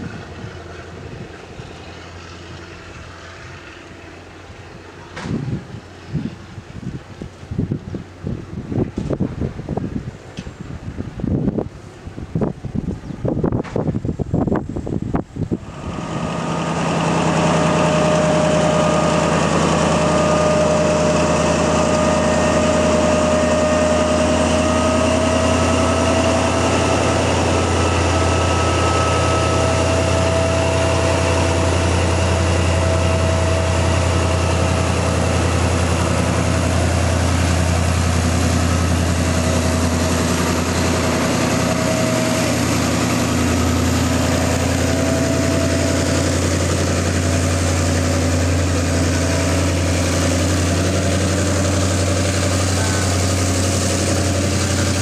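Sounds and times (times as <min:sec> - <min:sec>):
locomotive idling: 0:00.0 - 0:09.1, 0:14.6 - 0:55.0.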